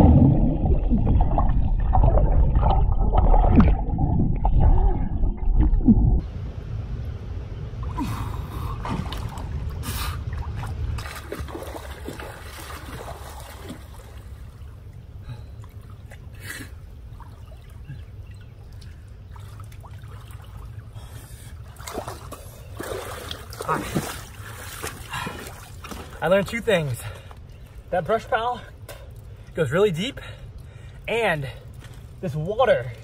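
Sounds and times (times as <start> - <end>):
water splashing and sloshing: 0.0 - 6.3, 7.8 - 33.0
steady low rumble: 0.0 - 33.0.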